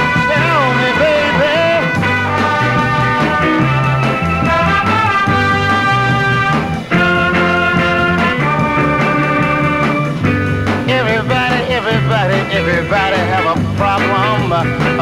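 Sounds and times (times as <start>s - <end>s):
soul band instrumental: 0.0s - 15.0s.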